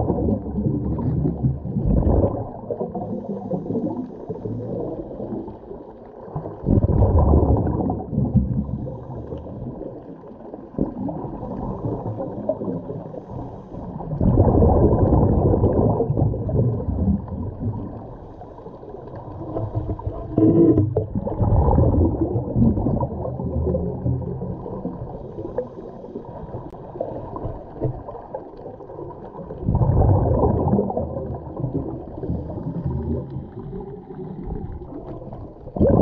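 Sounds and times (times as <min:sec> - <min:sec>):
low underwater rumble: 0:00.0 - 0:36.0
underwater exhaled bubbles: 0:00.0 - 0:36.0.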